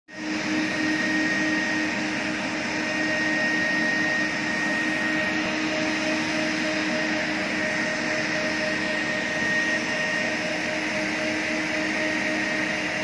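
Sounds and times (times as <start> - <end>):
vacuum cleaner running on carpet: 0.1 - 13.0.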